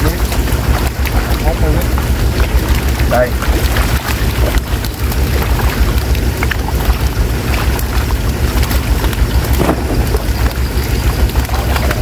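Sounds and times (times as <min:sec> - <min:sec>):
fish splashing in shallow water: 0:00.0 - 0:12.0
steady low rumble: 0:00.0 - 0:12.0.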